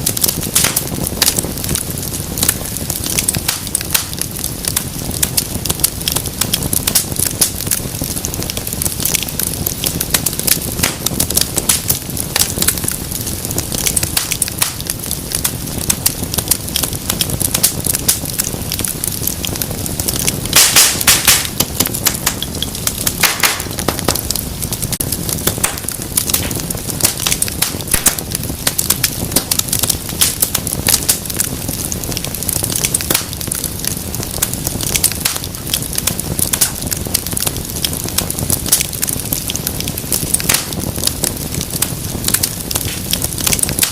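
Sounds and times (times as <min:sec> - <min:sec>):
low rumble of flame: 0:00.0 - 0:43.9
wood fire crackling and popping: 0:00.0 - 0:43.9.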